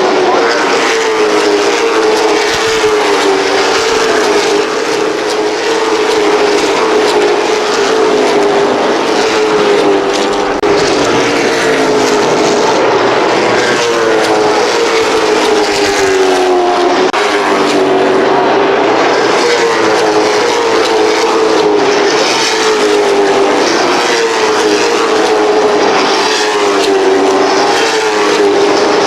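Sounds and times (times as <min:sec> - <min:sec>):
race car engines at speed: 0:00.0 - 0:29.0.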